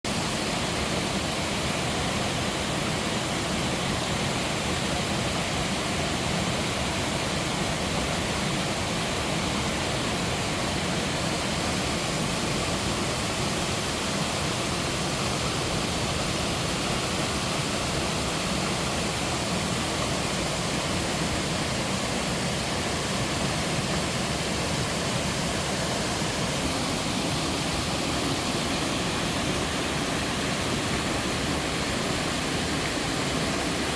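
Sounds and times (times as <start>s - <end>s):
waterfall rushing over rock: 0.0s - 33.9s.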